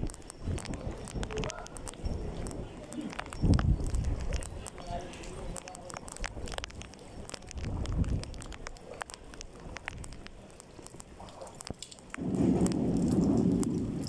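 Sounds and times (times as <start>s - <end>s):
rain pattering: 0.0s - 14.0s
wind on microphone: 0.0s - 14.0s.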